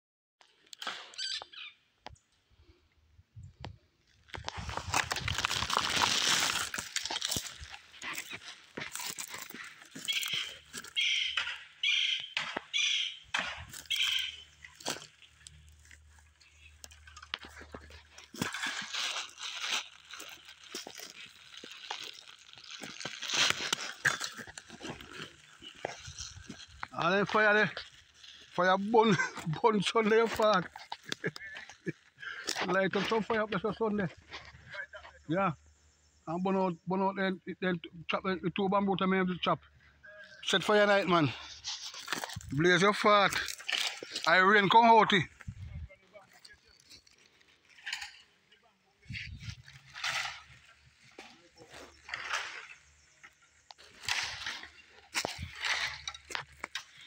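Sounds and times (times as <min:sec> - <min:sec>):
twigs cracking: 0:03.6 - 0:34.8, 0:40.4 - 0:57.0
dry grass and leaves crunching: 0:03.6 - 0:35.2, 0:40.2 - 0:57.0.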